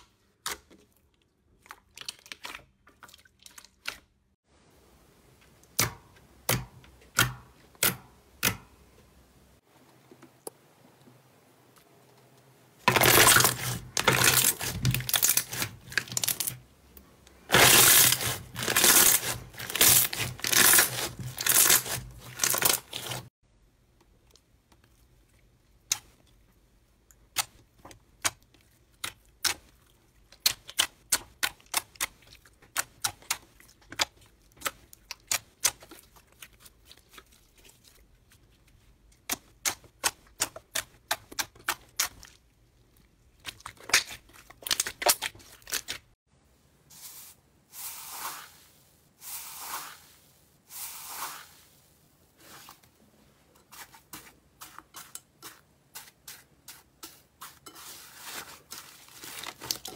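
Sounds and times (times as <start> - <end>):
slime squelching: 0.0 - 4.4, 12.8 - 23.3, 24.1 - 46.2, 46.9 - 59.9.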